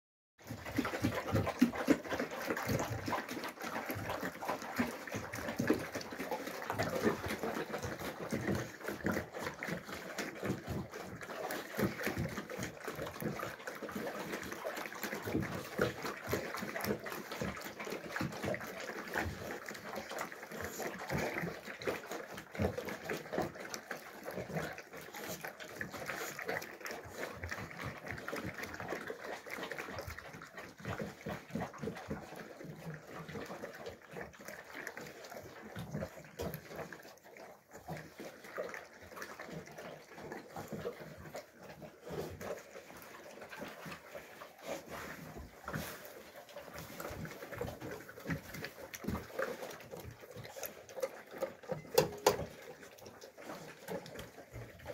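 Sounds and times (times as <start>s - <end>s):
puppy chewing and slurping: 0.4s - 54.9s.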